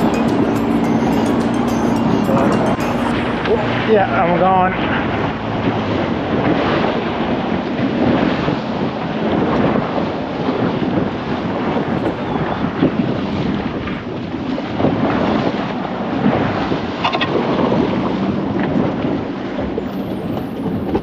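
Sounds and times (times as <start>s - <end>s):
rushing water from boat wake: 0.0s - 21.0s
wind buffeting microphone: 3.2s - 21.0s.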